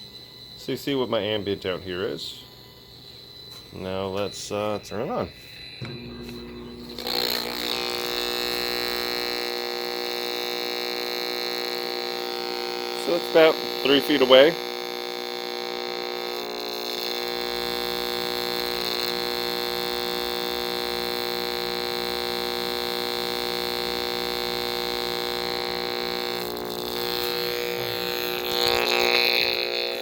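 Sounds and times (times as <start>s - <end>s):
microwave oven electrical buzz: 0.0s - 30.0s.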